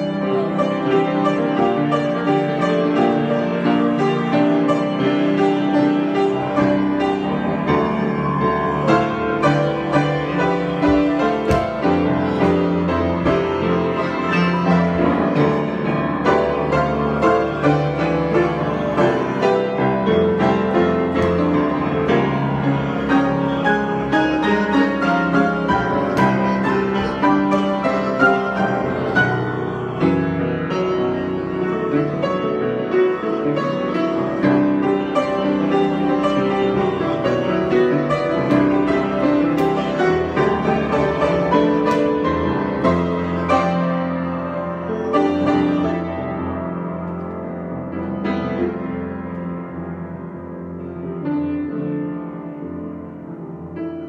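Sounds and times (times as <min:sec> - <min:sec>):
solo piano improvisation: 0:00.0 - 0:54.0.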